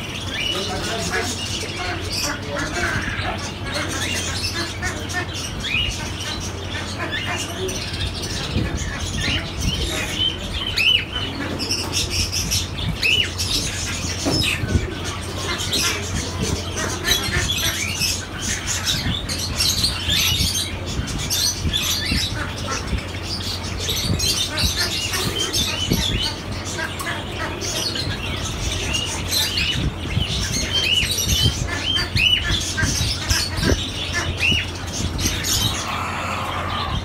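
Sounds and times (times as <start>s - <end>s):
sparrows chirping: 0.0s - 37.0s.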